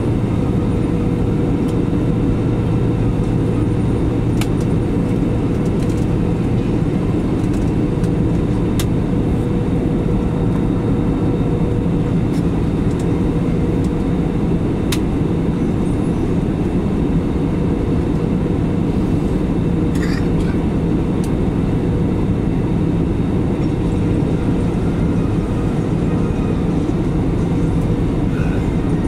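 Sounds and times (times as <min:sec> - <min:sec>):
faint hum: 0:00.0 - 0:29.0
jet engine and airflow rumble: 0:00.0 - 0:29.0.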